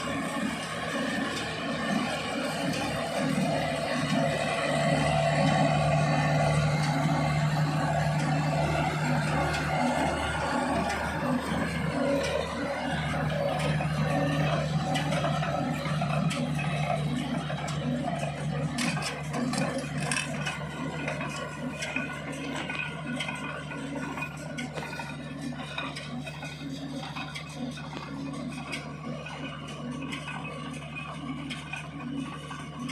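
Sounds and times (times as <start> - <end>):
tractor engine hum: 0.0 - 32.9.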